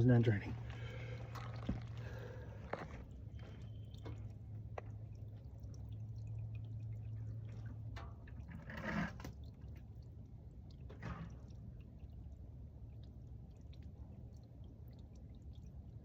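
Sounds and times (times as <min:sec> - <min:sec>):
low steady hum: 0:00.0 - 0:16.0
oil dripping into a pan: 0:00.6 - 0:16.0.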